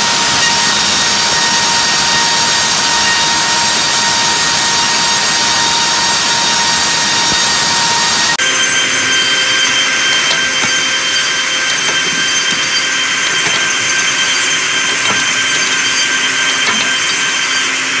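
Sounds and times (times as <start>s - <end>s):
wood moulder whining: 0.0s - 18.0s.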